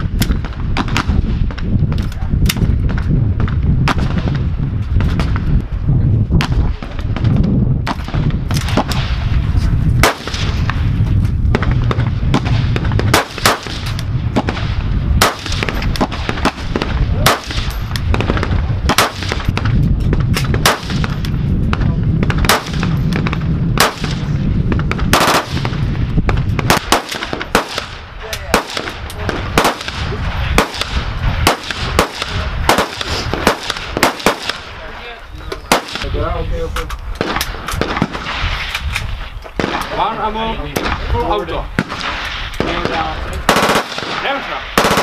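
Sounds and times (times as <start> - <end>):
rifle gunfire with echoes: 0.0 - 1.7, 2.4 - 5.5, 6.4 - 35.1, 35.7 - 36.4, 37.2 - 38.8, 39.6 - 45.0.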